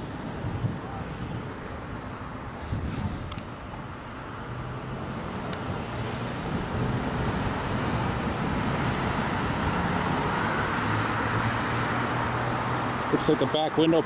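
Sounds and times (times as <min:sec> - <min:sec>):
passing vehicles: 0:00.0 - 0:14.0.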